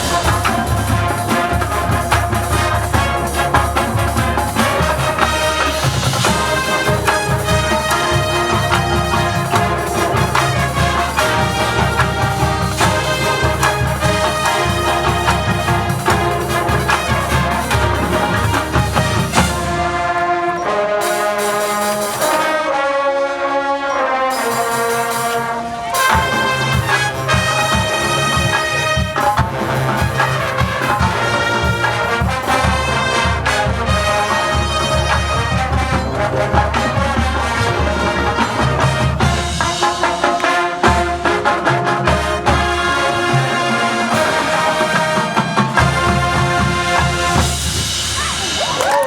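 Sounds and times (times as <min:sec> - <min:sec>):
marching band playing: 0:00.0 - 0:49.0.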